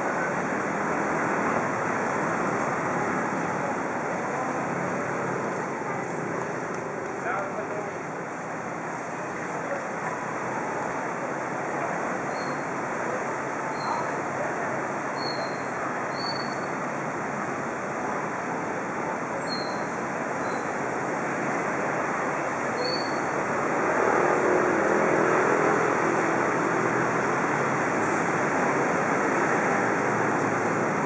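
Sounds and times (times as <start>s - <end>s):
street traffic noise: 0.0s - 31.0s.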